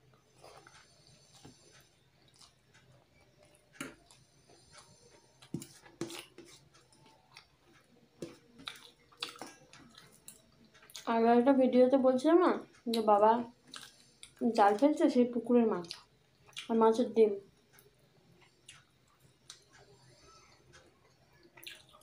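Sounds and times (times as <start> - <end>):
person chewing food: 0.1 - 11.1, 12.9 - 14.8, 15.8 - 16.7, 17.6 - 22.0.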